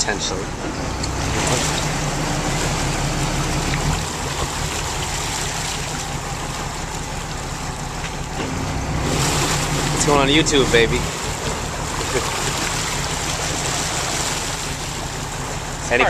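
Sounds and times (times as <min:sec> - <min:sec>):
boat engine humming: 0:00.0 - 0:16.0
water rushing: 0:00.0 - 0:16.0
wind: 0:00.0 - 0:16.0.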